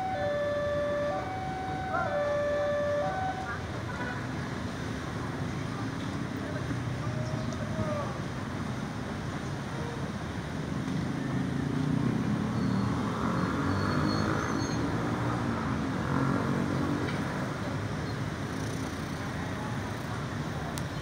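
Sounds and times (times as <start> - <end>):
motorcycle and car engines rumbling: 0.0 - 21.0.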